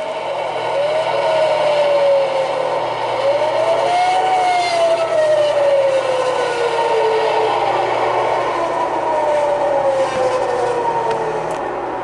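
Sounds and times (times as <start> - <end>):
model train whine: 0.0 - 12.0
steady rumble and hum: 0.0 - 12.0.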